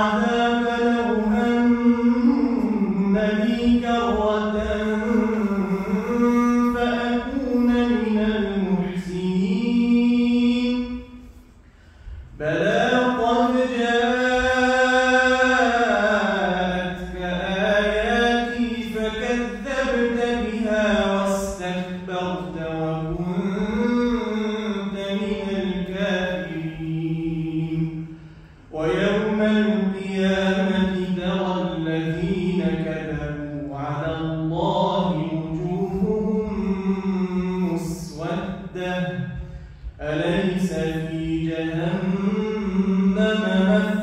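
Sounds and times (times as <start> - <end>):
man chanting melodically: 0.0 - 11.4, 12.4 - 44.0.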